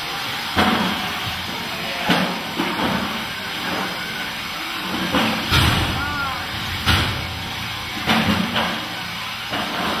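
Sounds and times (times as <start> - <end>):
steady hissing arena din: 0.0 - 10.0.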